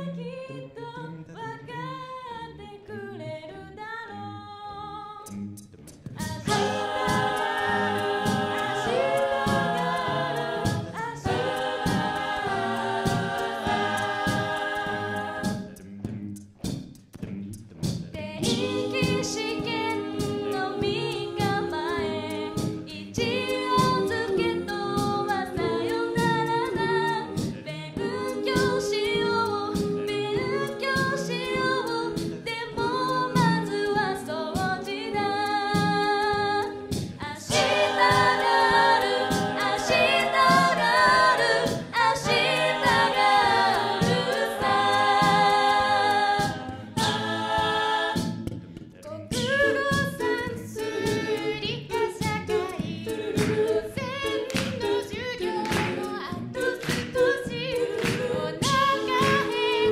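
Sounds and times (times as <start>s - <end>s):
a cappella group singing: 0.0s - 16.2s, 17.3s - 59.9s
steady beat: 5.9s - 59.9s.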